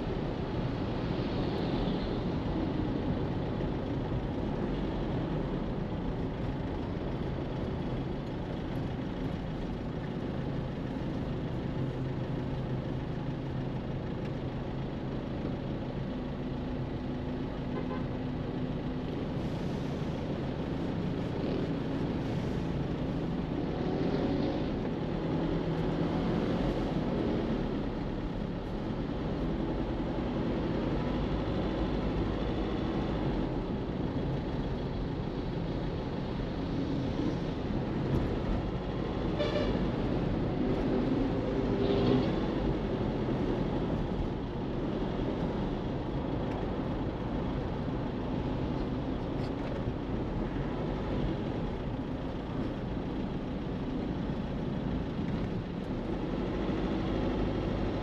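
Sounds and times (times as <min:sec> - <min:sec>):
car engine and road noise: 0:00.0 - 0:58.0
other vehicles in traffic: 0:00.0 - 0:58.0.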